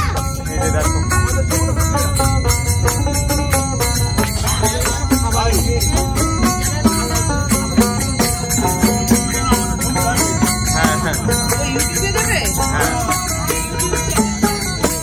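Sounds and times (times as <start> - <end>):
hand cymbals ringing: 0.0 - 15.0
hand drum: 0.0 - 15.0
strummed banjo: 0.0 - 15.0.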